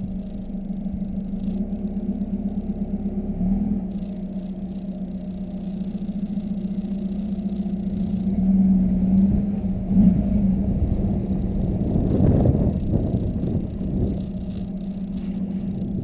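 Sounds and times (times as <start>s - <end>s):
diesel car engine drone: 0.0s - 16.0s.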